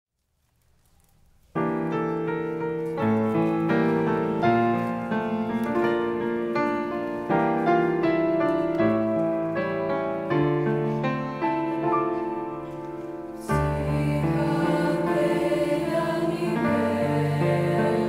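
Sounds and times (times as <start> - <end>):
slow piano chords: 1.3 - 18.0.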